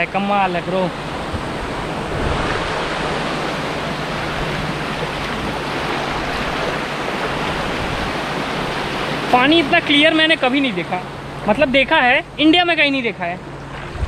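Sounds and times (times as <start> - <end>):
sea surf washing on beach: 0.0 - 14.0.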